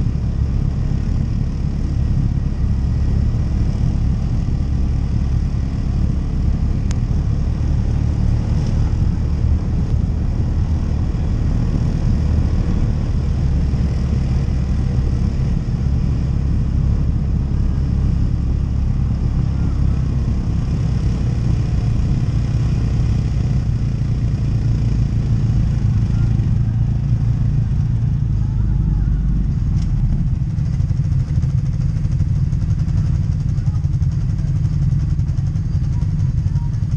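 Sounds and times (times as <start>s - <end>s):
quad bike engine running: 0.0s - 36.9s.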